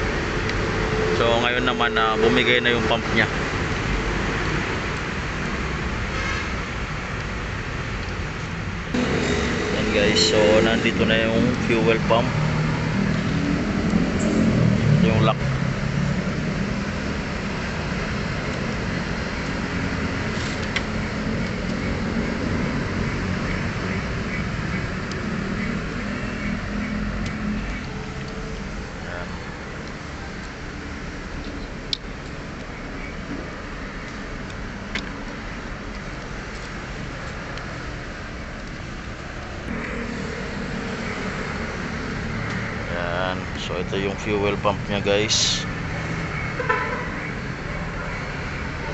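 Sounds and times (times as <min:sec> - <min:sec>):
vehicle noise low hum: 0:00.0 - 0:48.9.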